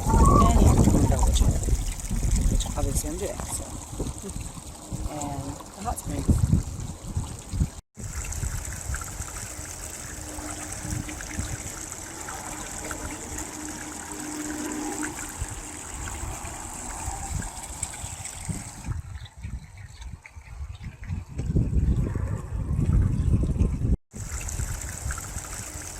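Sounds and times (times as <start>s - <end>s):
water trickling: 0.0s - 25.9s.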